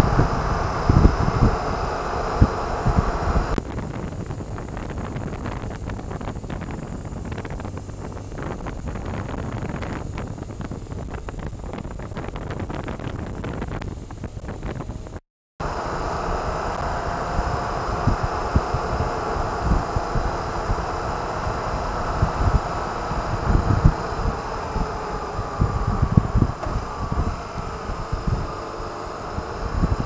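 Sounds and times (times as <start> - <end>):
low buffeting thumps: 0.0 - 15.2, 16.7 - 28.6
wind rushing over microphone: 0.0 - 30.0.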